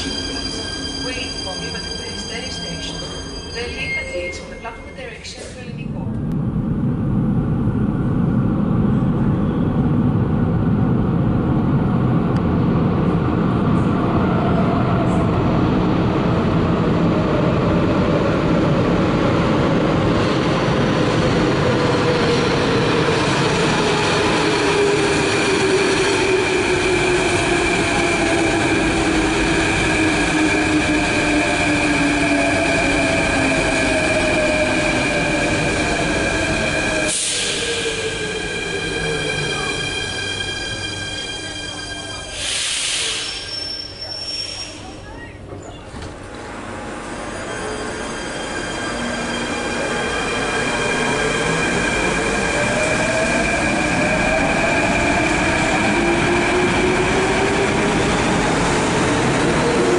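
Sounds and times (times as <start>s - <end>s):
train rumbling through tunnel: 0.0s - 59.9s.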